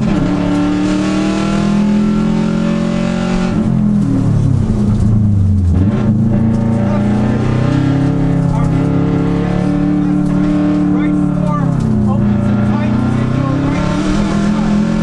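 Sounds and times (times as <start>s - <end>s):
rally car engine racing: 0.0s - 15.0s.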